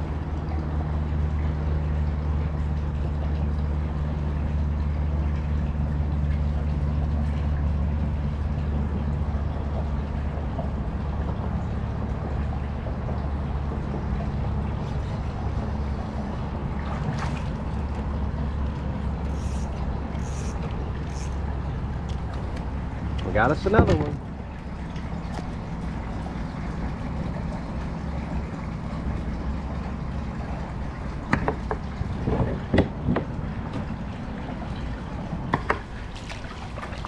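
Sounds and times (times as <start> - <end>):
low engine hum: 0.0 - 37.0
water noise: 0.0 - 37.0.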